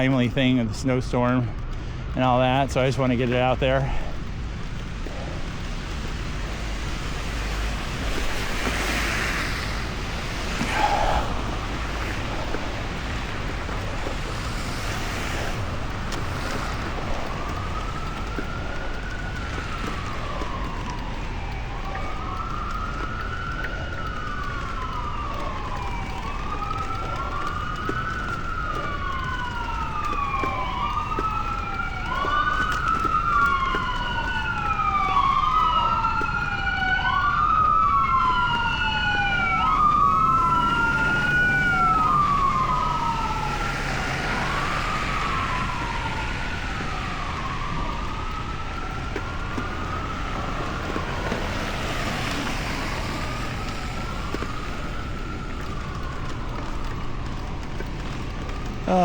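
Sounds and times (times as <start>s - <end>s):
emergency vehicle siren wailing: 0.0s - 59.0s
low rumble of street noise: 0.0s - 59.0s.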